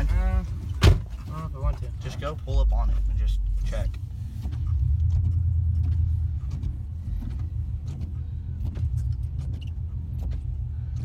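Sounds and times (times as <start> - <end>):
car engine and tyres rumbling: 0.0 - 11.0
knocks and rattles over bumps: 0.0 - 11.0.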